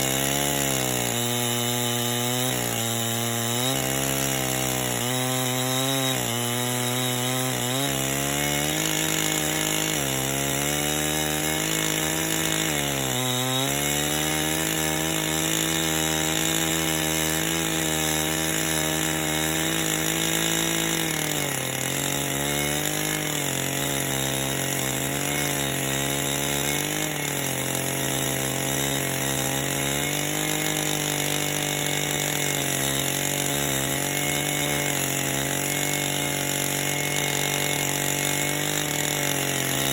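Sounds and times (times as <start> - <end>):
chainsaw cutting log under load: 0.0 - 39.9.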